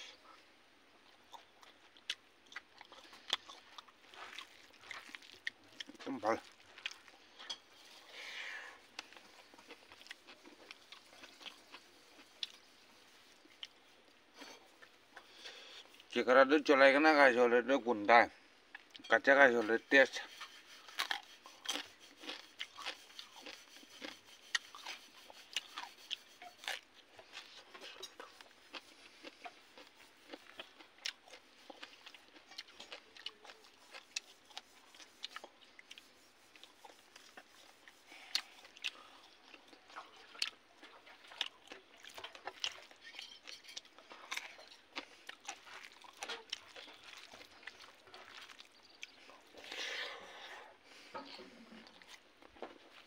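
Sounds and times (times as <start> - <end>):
man chewing and crunching food: 0.0 - 16.8, 18.4 - 53.0.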